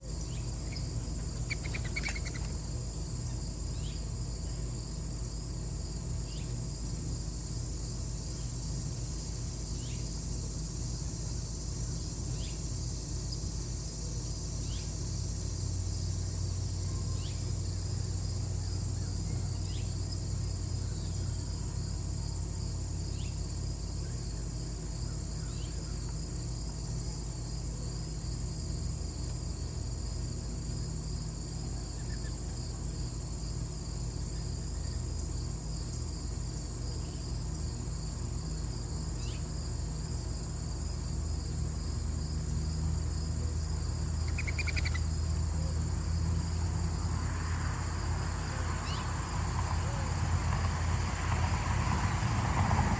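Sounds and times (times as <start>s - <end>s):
low steady hum: 0.0s - 50.5s
crickets trilling: 0.0s - 52.9s.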